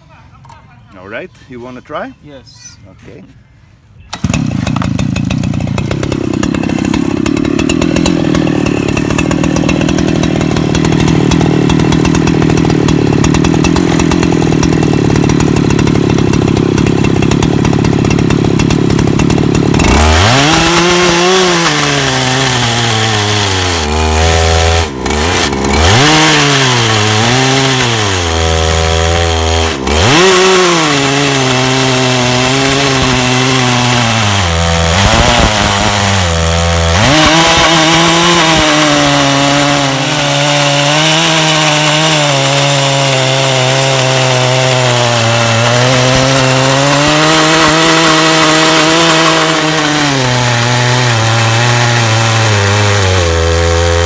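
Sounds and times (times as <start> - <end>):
sawmill engine running: 4.1 - 54.0.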